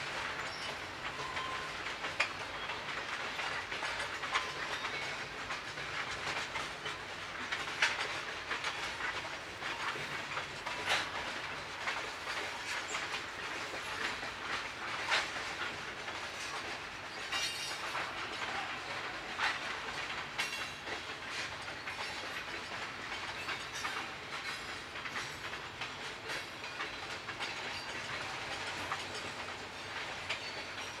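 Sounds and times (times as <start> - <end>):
train cars rolling: 0.0 - 31.0
train wheels clicking over rail joints: 0.0 - 31.0.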